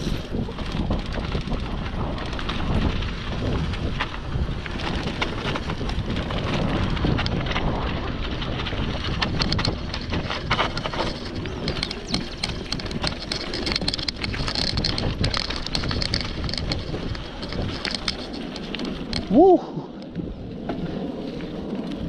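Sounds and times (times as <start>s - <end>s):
bike rattling over bumps: 0.0s - 22.0s
tyres crunching on gravel: 0.0s - 22.0s
wind buffeting microphone: 0.0s - 22.0s.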